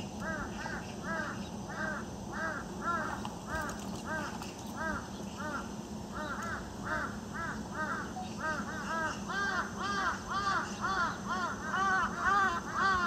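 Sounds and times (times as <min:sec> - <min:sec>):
birds calling in short arched calls: 0:00.0 - 0:13.0.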